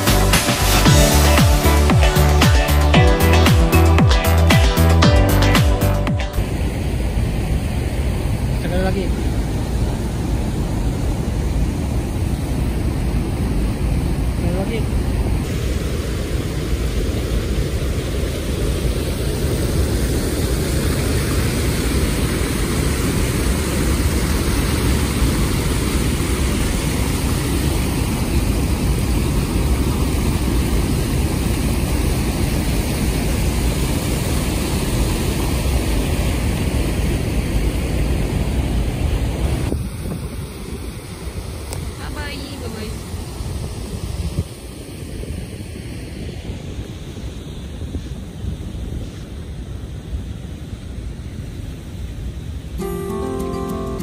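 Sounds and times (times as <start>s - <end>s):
water rushing over dam and rocks: 0.0s - 52.7s.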